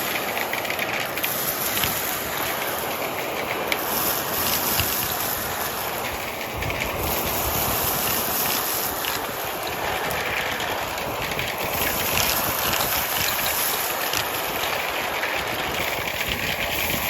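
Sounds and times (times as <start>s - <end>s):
grit crackling being sucked up: 0.0s - 17.0s
vacuum cleaner running: 0.0s - 17.0s.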